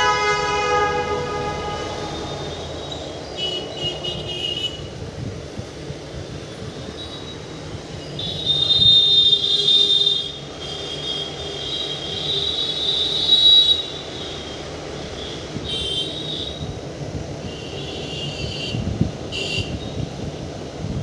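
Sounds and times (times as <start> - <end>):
moving train rumble: 0.0 - 21.0.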